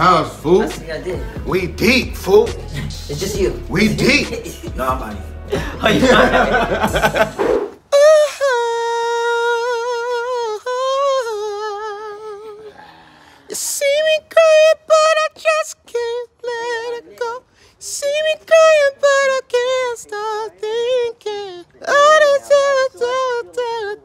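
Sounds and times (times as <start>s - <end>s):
man singing unaccompanied: 0.0s - 7.0s, 7.9s - 12.8s, 13.4s - 24.0s.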